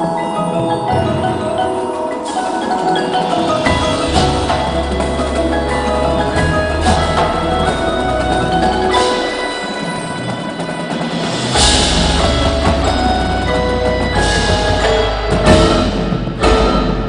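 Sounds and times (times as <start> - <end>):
mallet keyboards ringing: 0.0 - 17.0.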